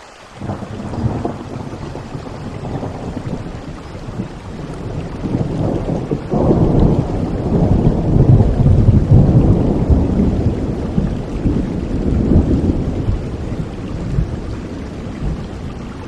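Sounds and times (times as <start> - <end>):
rain hiss: 0.0 - 16.0
rolling thunder: 0.4 - 16.0.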